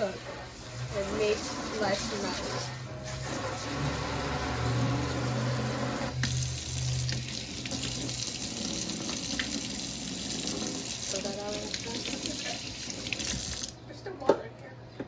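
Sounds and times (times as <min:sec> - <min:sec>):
tap water running into sink: 0:00.0 - 0:13.8.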